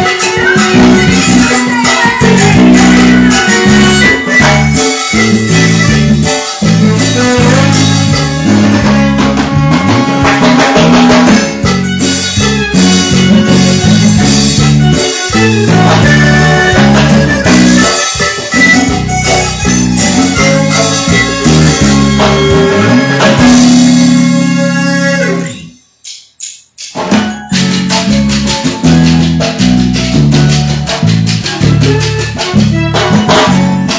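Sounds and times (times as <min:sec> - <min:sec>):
latin dance band playing: 0:00.0 - 0:33.9.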